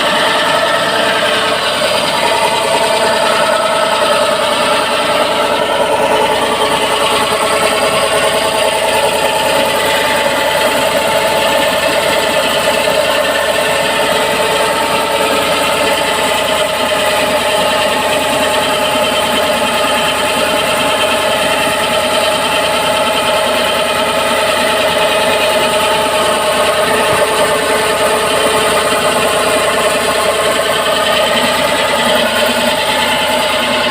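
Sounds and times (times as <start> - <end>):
drilling machine hum: 0.0 - 33.9.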